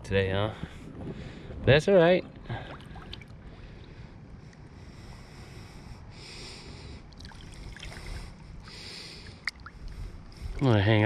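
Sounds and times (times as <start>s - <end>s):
low rumble of background noise: 0.0s - 11.0s.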